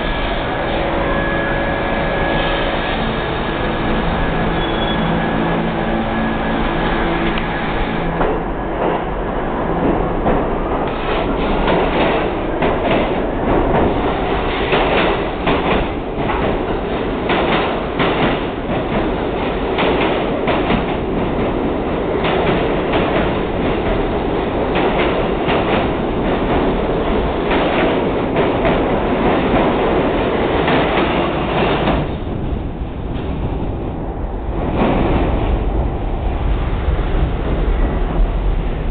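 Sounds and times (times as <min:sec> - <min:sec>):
subway train rumbling past: 0:00.0 - 0:38.9.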